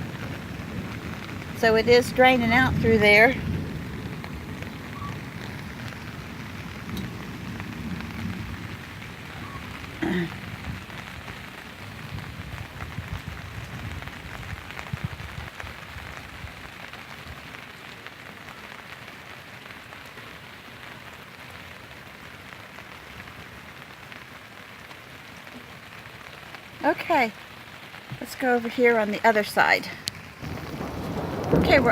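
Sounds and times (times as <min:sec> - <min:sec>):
steady rain hissing: 0:00.0 - 0:31.9.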